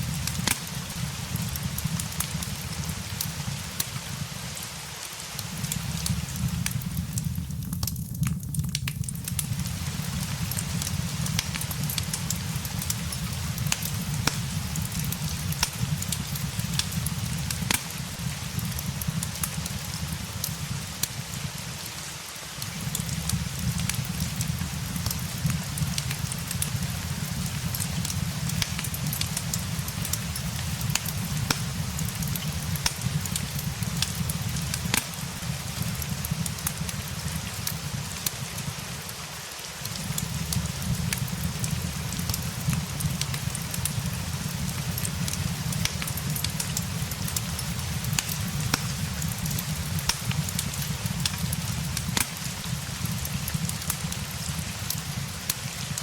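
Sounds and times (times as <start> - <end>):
crackling fireplace: 0.0 - 56.0
steady rain: 0.0 - 56.0.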